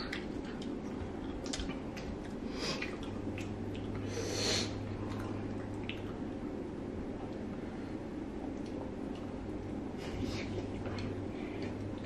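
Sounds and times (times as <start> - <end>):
soft wet squishing: 0.0 - 12.0.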